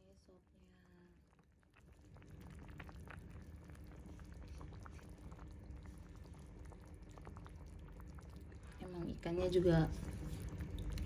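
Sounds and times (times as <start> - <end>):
soup boiling and bubbling: 0.0 - 11.0.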